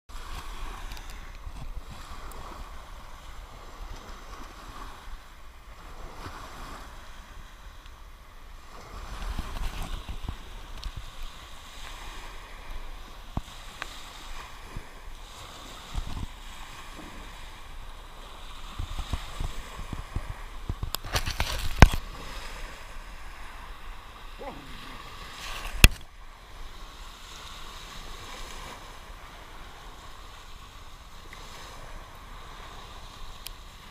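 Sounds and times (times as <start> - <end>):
small waves washing on sand: 0.1 - 33.9
wind buffeting microphone: 0.1 - 33.9.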